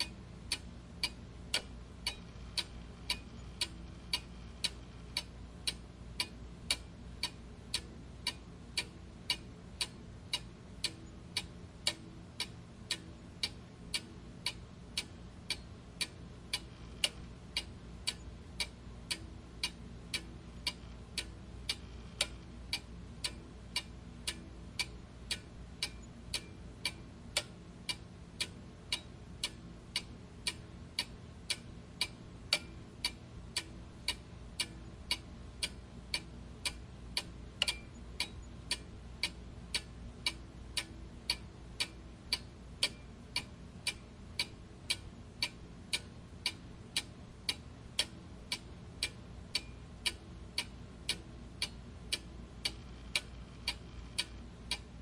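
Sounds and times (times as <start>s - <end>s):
clock ticking: 0.0s - 55.0s
faint low hum: 0.0s - 55.0s.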